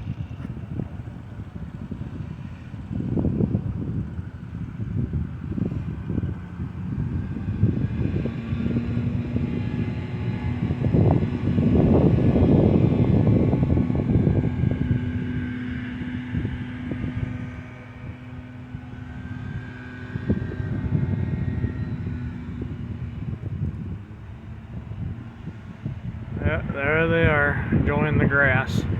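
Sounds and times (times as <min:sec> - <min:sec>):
engine drone: 0:00.0 - 0:28.9
wind rumble on microphone: 0:00.0 - 0:28.9.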